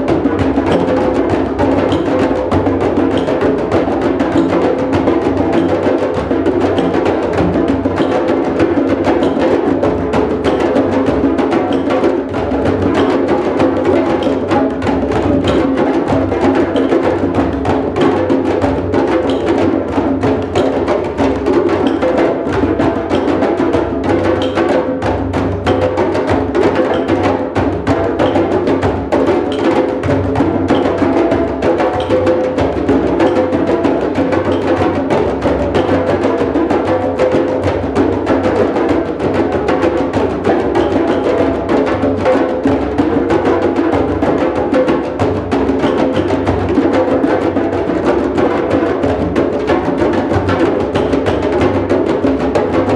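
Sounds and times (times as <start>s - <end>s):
hand drums playing: 0.0s - 52.9s.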